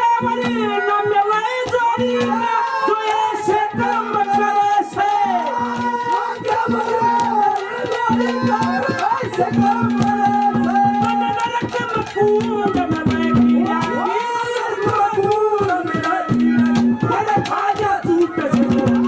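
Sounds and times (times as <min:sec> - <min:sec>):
man singing into a microphone: 0:00.0 - 0:19.0
fast hand drum strokes: 0:01.6 - 0:02.6, 0:03.5 - 0:19.0.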